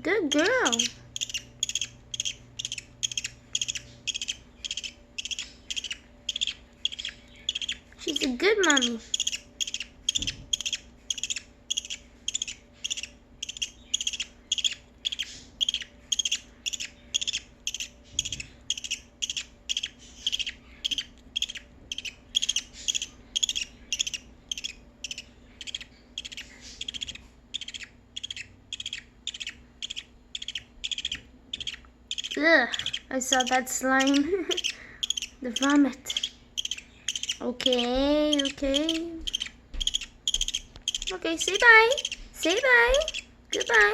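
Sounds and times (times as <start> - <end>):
budgerigar chicks begging calls: 0.1 - 43.9.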